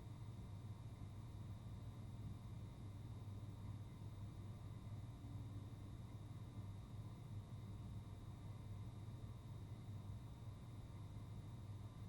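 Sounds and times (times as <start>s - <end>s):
hvac low hum: 0.0s - 12.0s
soft hiss: 0.0s - 12.0s.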